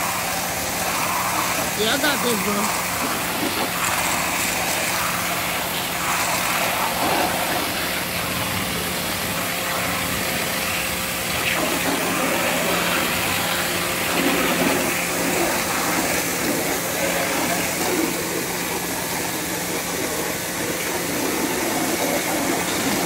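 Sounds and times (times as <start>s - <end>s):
pressure washer humming: 0.0s - 23.0s
water jet hissing on siding: 0.0s - 23.0s.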